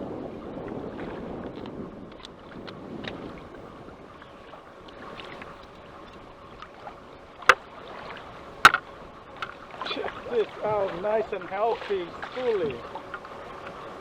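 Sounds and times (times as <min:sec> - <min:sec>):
water sloshing against a kayak: 0:00.0 - 0:14.0.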